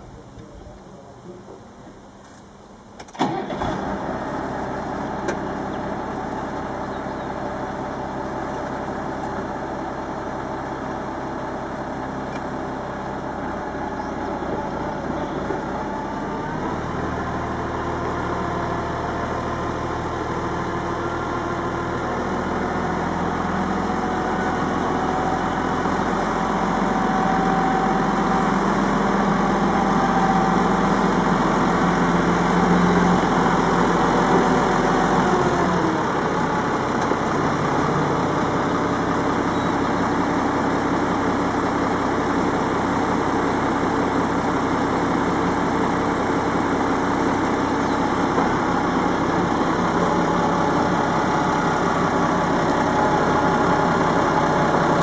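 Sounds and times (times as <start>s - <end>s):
tractor diesel engine: 0.0s - 55.0s.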